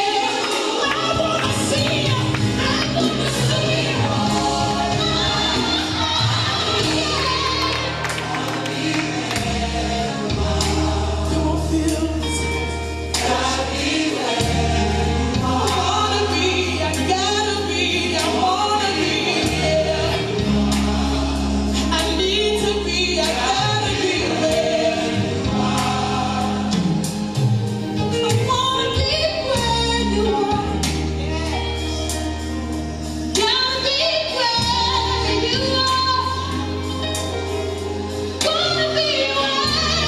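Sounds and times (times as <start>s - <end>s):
band playing: 0.0s - 40.0s
choir singing gospel: 0.0s - 40.0s.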